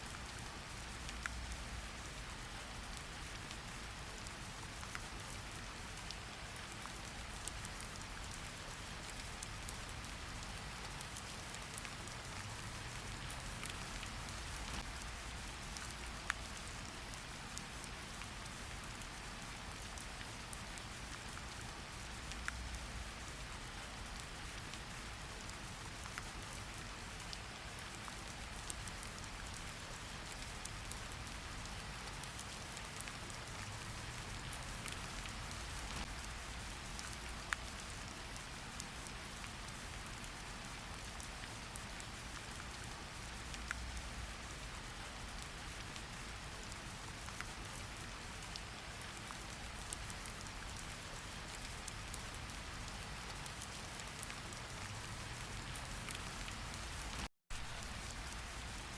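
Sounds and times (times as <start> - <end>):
raindrops ticking on a surface: 0.0 - 58.9
steady rain hiss: 0.0 - 58.9.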